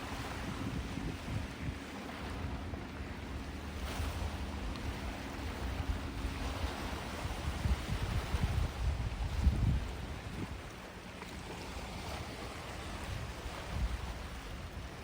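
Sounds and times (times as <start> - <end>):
wind rumbling on microphone: 0.0 - 11.0, 11.7 - 15.0
sea waves washing onto beach: 0.0 - 15.0.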